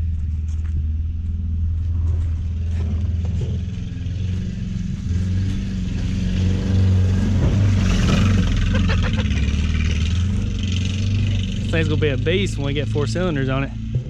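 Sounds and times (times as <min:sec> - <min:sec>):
car engine running loud: 0:00.0 - 0:14.0.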